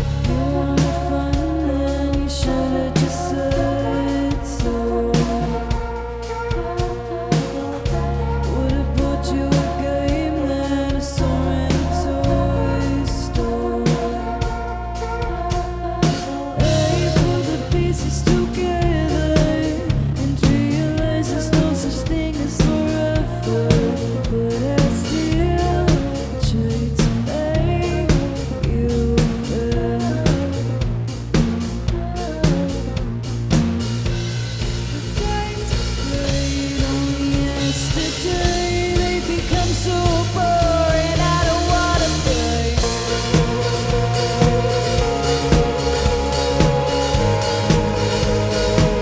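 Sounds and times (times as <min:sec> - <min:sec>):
person singing: 0:00.0 - 0:33.7, 0:34.9 - 0:49.0
bass guitar: 0:00.0 - 0:49.0
drum and cymbal hits: 0:00.0 - 0:49.0
live band playing: 0:00.0 - 0:49.0.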